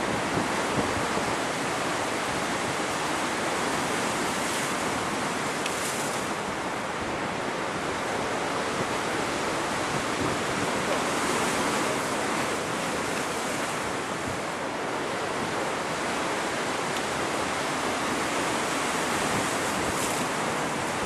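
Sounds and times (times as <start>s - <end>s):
wind buffeting microphone: 0.0s - 5.6s, 6.3s - 21.0s
rough water: 0.0s - 21.0s.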